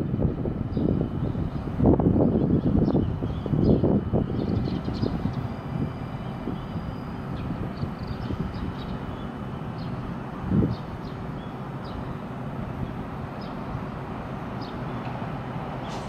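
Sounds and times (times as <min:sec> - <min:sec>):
electric train humming: 0:00.0 - 0:16.0.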